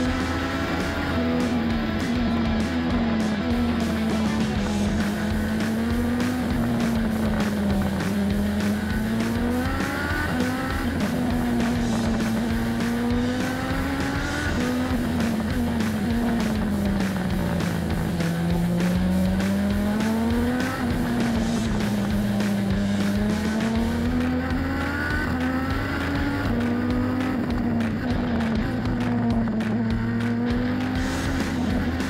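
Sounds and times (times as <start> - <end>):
racing car engine revving: 0.0 - 32.0.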